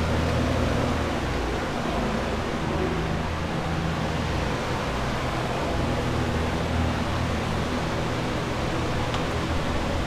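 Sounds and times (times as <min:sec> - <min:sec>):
rush of air from fans: 0:00.0 - 0:10.0.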